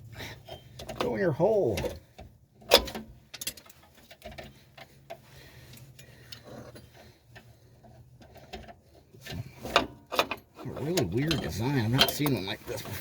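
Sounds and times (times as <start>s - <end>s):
metallic clicks of brake parts: 0.4s - 1.1s, 1.8s - 12.5s.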